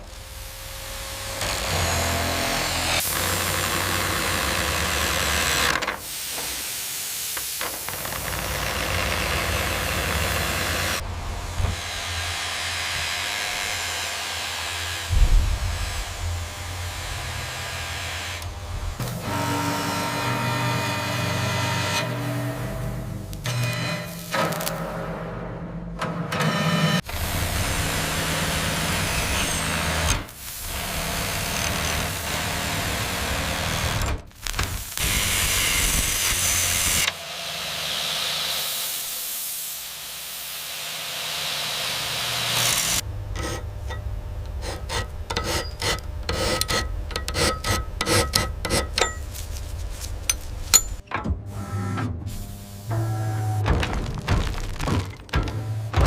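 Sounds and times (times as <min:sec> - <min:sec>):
power tool running: 0:00.0 - 0:06.6, 0:07.3 - 0:24.8, 0:27.0 - 0:49.2.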